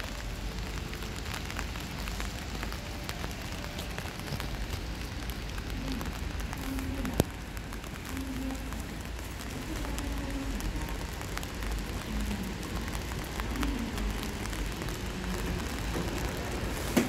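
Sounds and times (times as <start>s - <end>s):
crackly hiss: 0.0s - 17.0s.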